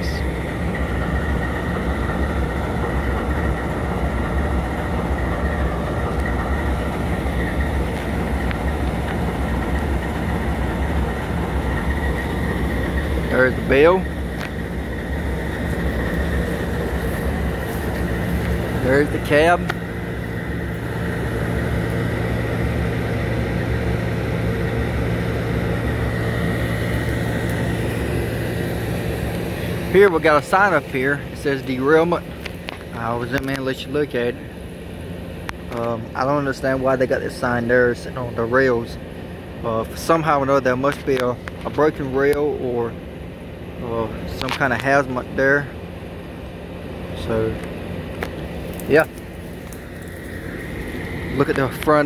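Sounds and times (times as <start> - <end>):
locomotive engine idling: 0.0 - 52.0.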